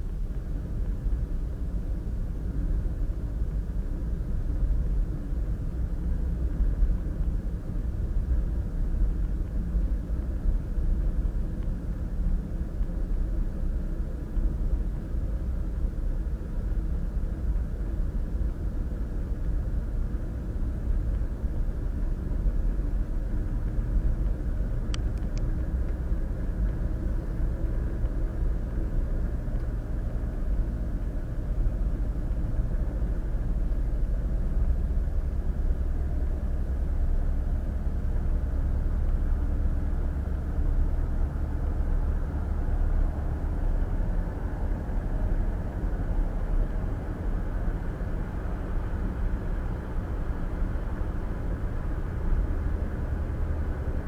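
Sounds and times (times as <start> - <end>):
car road noise from cabin: 0.0 - 54.0.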